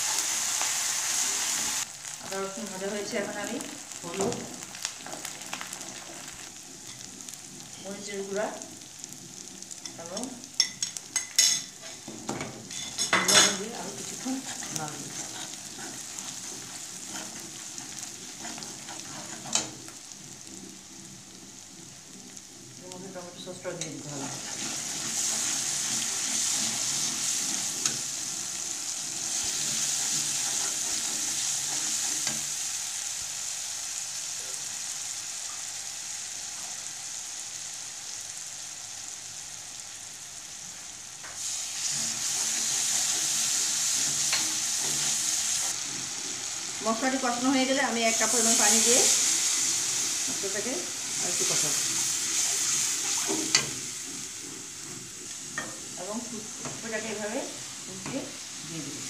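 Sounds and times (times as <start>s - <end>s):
masala sizzling in hot oil: 0.0s - 59.0s
spatula stirring and scraping: 3.1s - 33.6s, 41.2s - 58.6s.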